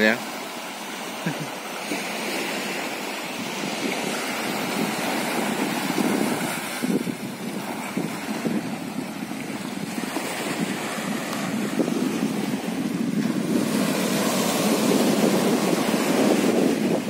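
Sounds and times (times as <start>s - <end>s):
small waves washing onto shore: 0.0s - 17.0s
wind buffeting microphone: 2.7s - 17.0s.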